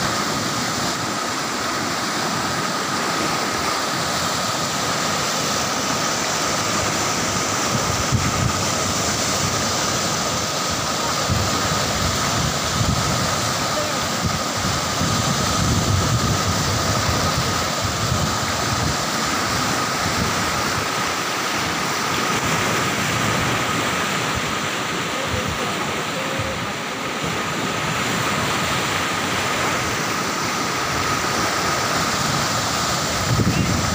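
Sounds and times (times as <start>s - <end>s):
floodwater rushing: 0.0s - 33.9s.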